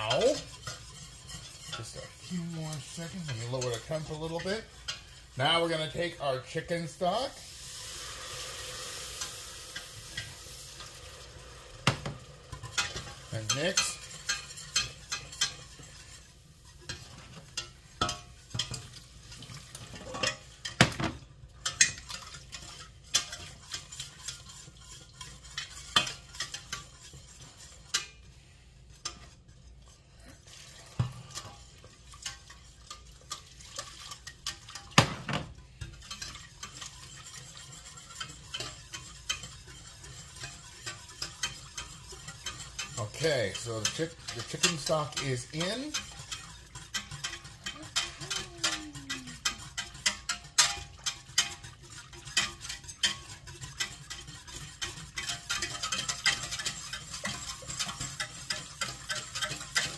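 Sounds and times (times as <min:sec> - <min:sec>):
whisk clinking in metal pot: 0:00.0 - 0:59.9.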